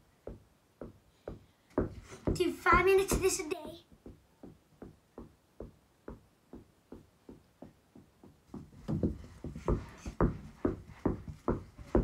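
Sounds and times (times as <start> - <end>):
basketball bouncing on carpet: 0.2 - 12.0.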